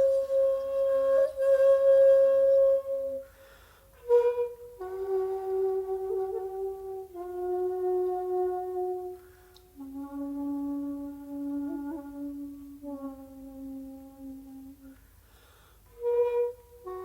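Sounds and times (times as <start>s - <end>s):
bamboo flute holding long notes: 0.0s - 15.1s, 15.9s - 17.0s.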